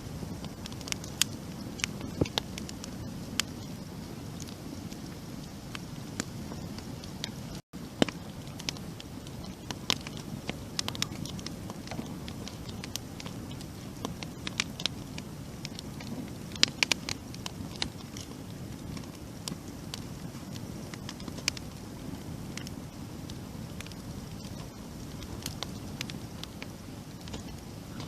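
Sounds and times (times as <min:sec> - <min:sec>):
campfire crackling and popping: 0:00.0 - 0:28.0
low steady flame noise: 0:00.0 - 0:28.0.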